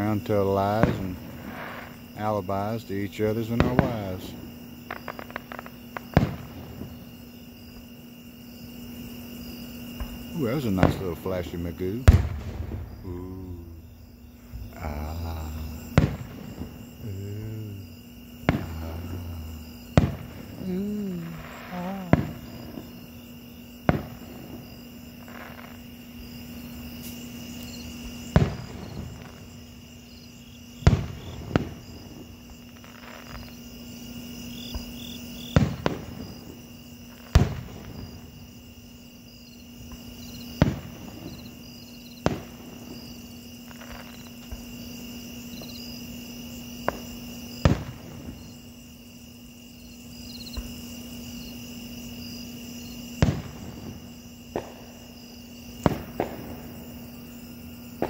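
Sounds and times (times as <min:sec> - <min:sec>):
fireworks booming: 0:00.0 - 0:07.9, 0:09.1 - 0:33.6, 0:34.6 - 0:38.6, 0:39.9 - 0:44.8, 0:46.8 - 0:48.8, 0:50.4 - 0:50.9, 0:52.4 - 0:58.0.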